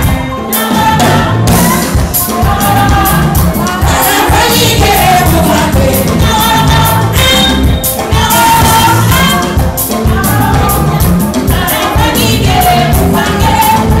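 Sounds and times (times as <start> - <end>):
driving drum beat: 0.0 - 14.0
women singing together: 0.0 - 14.0.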